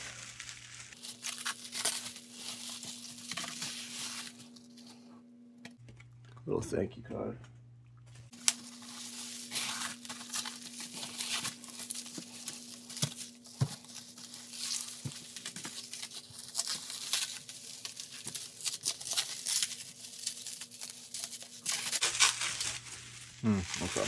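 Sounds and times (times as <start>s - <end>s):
bubble wrap crinkling: 0.0s - 5.1s, 8.2s - 24.0s.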